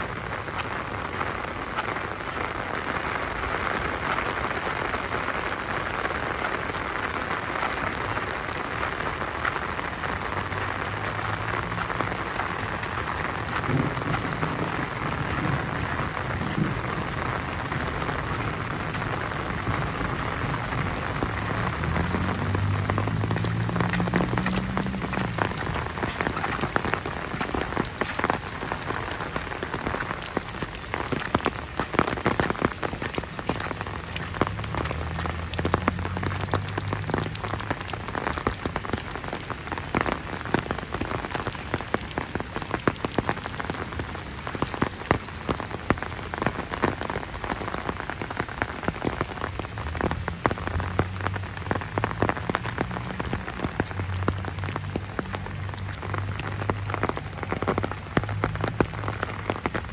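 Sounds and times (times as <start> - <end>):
sharp raindrop strikes: 0.0 - 59.9
steady rain falling: 0.0 - 59.9.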